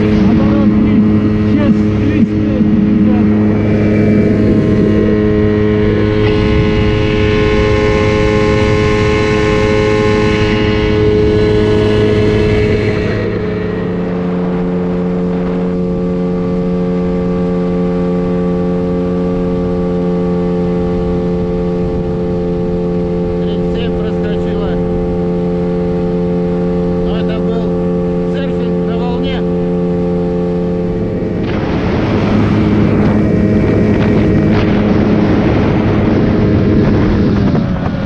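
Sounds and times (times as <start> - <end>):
outboard motors droning: 0.0 - 38.0.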